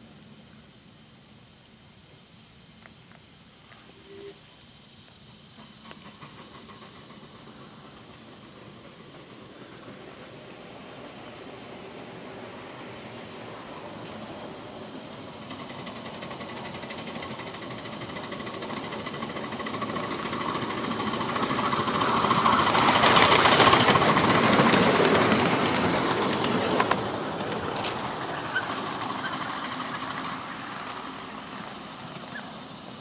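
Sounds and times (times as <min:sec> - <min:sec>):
miniature steam train passing: 0:00.0 - 0:33.0.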